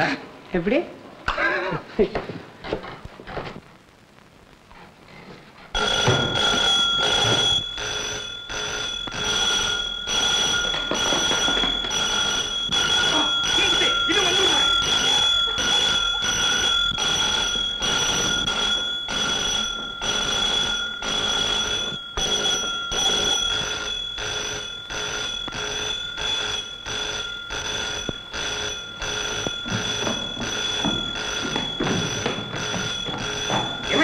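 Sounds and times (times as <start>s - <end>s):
electric alarm bell ringing: 5.8s - 34.0s.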